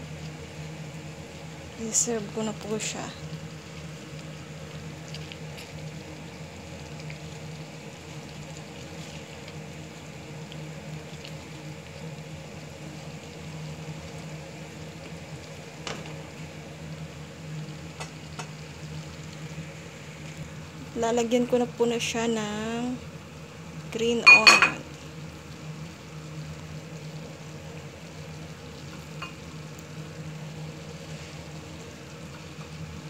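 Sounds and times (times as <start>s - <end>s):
sauce bubbling in a pan: 0.0s - 33.0s.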